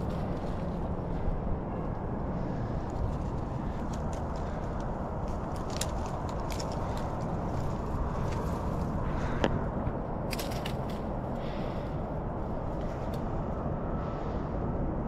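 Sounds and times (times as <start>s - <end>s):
twigs and leaves crackling: 0.0s - 13.6s
low rushing noise: 0.0s - 15.0s.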